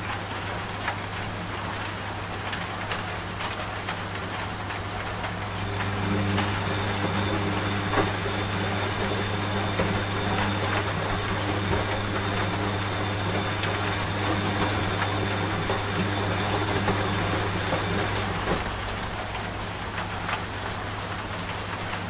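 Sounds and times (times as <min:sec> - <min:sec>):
steady rain: 0:00.0 - 0:22.0
washing machine humming: 0:00.0 - 0:22.0.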